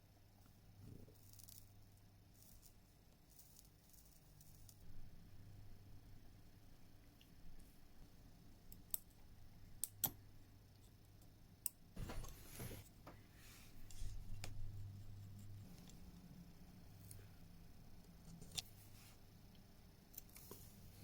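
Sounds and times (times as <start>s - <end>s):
low mains hum: 0.0s - 21.0s.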